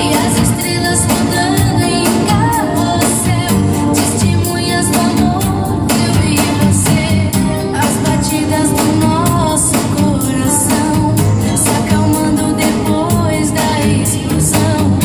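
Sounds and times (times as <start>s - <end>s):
person singing over a beat: 0.0s - 15.0s.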